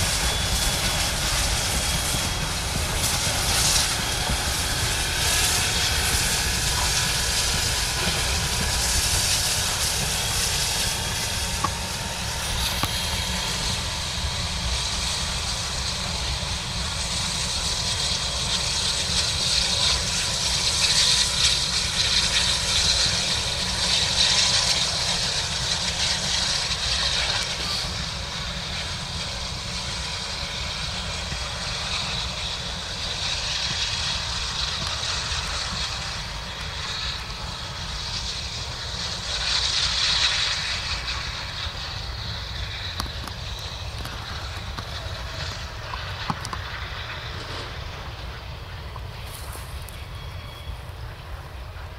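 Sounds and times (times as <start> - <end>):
steam hiss: 0.0 - 51.9
steam locomotive passing: 0.0 - 51.9.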